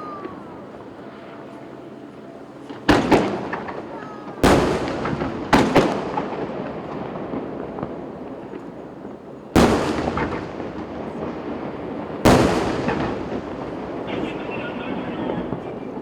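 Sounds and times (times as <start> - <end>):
firework shells booming: 2.6 - 16.0.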